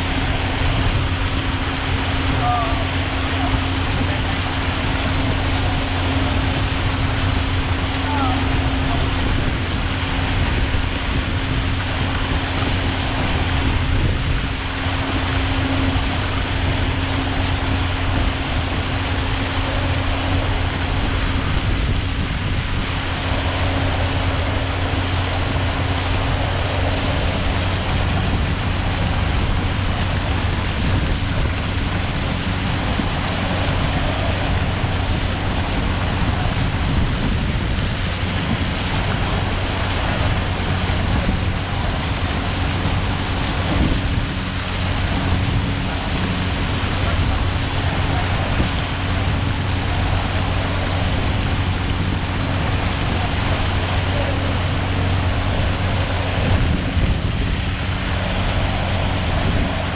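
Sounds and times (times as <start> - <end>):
boat motor running: 0.0 - 59.9.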